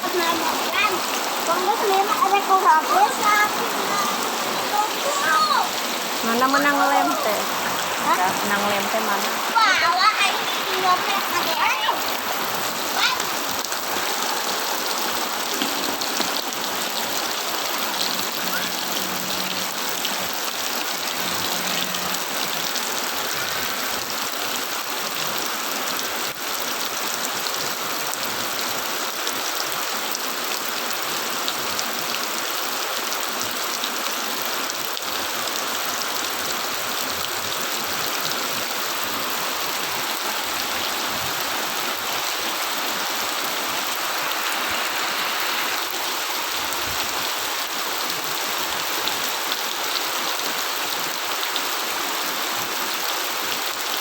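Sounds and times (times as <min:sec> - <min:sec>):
rain falling and splashing: 0:00.0 - 0:54.0.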